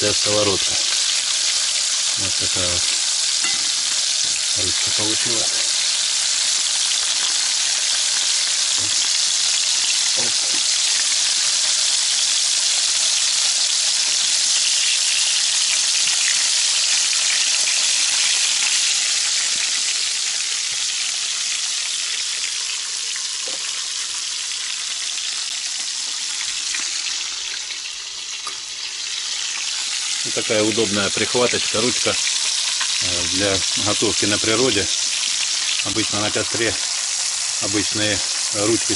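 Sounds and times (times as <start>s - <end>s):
fish frying in hot oil: 0.0s - 38.9s.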